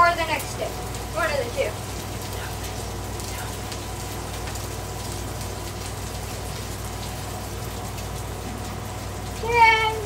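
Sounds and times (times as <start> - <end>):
meat and onions sizzling on griddle: 0.0 - 10.0.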